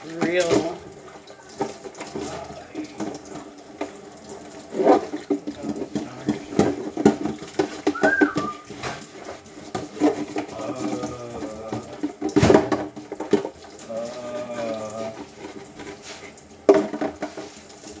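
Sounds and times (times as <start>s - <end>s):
dishes clinking in a sink: 0.0s - 4.0s, 5.0s - 18.0s
water running: 0.0s - 18.0s.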